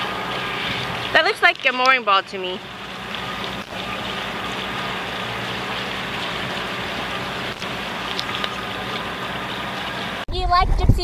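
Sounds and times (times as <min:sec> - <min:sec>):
boat engine running: 0:00.0 - 0:10.2
rushing wind and water: 0:00.0 - 0:11.0.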